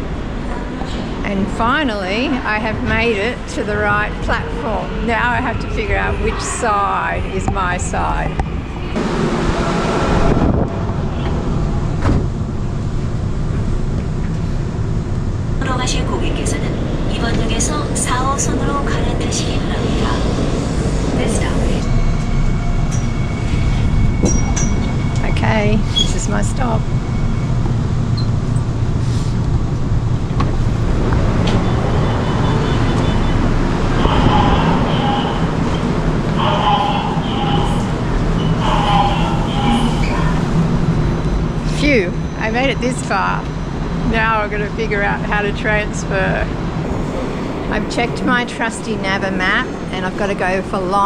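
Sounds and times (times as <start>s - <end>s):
subway train rumbling: 0.0s - 51.0s.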